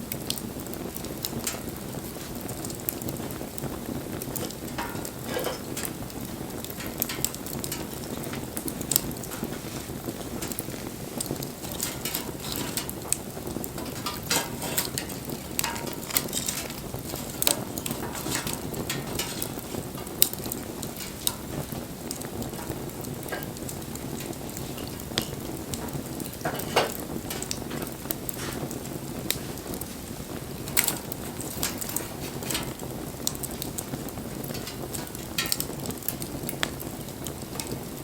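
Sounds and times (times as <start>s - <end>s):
bonfire crackling: 0.0s - 38.0s
fire popping and snapping: 0.0s - 38.0s.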